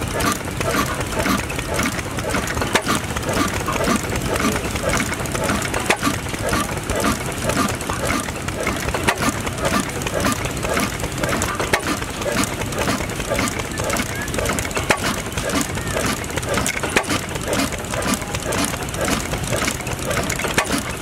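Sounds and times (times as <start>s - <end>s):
stationary oil engine running: 0.0s - 21.0s.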